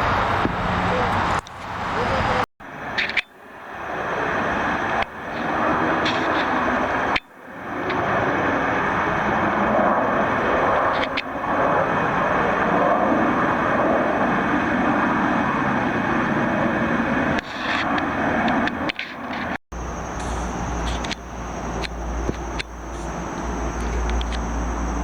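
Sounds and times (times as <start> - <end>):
jet engines roaring: 0.0 - 25.0.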